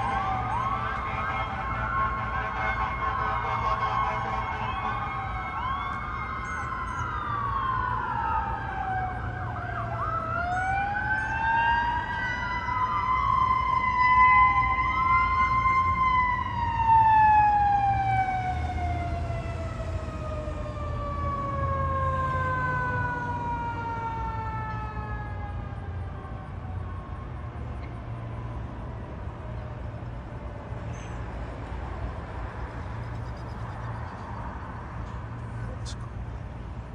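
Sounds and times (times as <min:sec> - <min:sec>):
fire truck siren wailing: 0:00.0 - 0:30.4.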